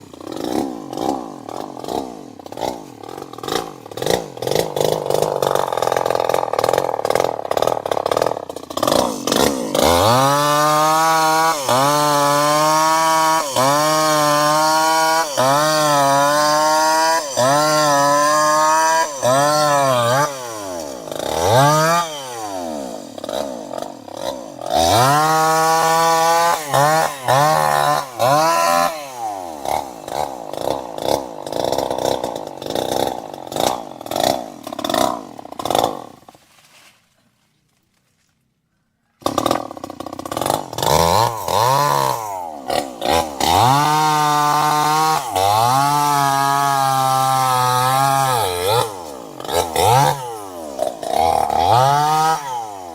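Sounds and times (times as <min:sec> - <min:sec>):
chainsaw engine revving: 0:00.0 - 0:36.4, 0:39.2 - 0:52.9.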